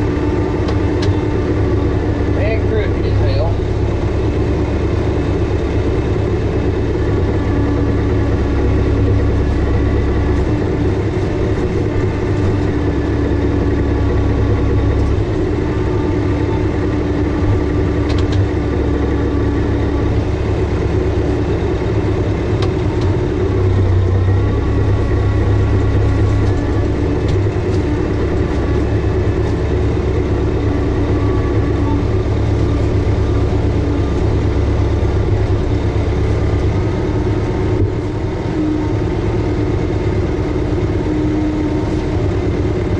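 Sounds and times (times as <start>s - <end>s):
tractor diesel engine idling: 0.0s - 42.9s.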